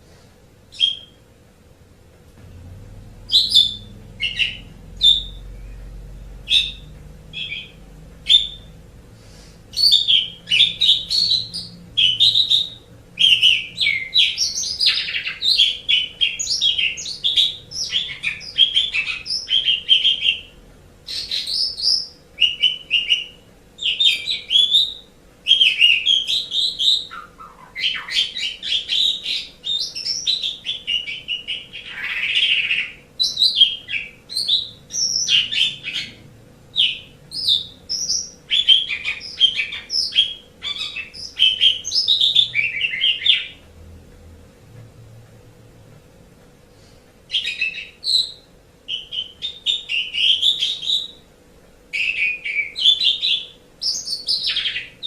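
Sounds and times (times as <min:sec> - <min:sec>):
starling singing: 0:00.7 - 0:01.2, 0:02.4 - 0:08.9, 0:09.7 - 0:43.6, 0:47.3 - 0:51.3, 0:51.9 - 0:55.0.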